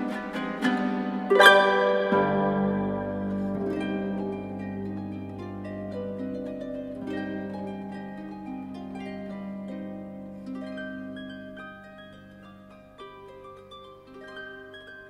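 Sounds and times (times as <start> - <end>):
harp melody: 0.0 - 15.0.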